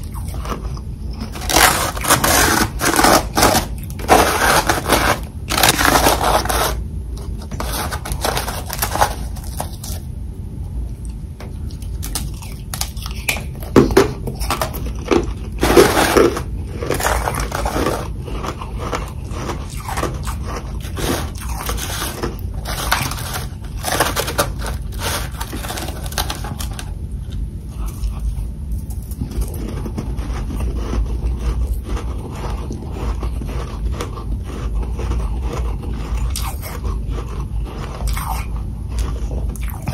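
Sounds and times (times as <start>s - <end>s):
crunching and chewing ice: 0.0s - 10.1s, 11.5s - 39.9s.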